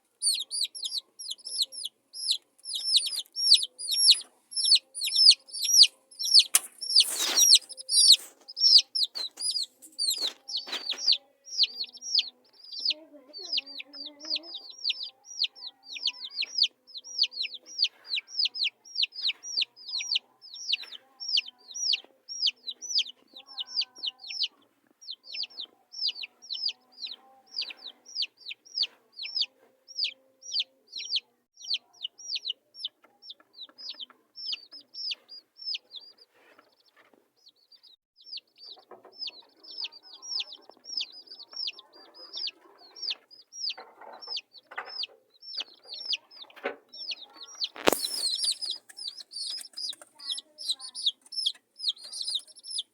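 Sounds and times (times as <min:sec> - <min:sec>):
baby chicks peeping: 0:00.0 - 0:52.9.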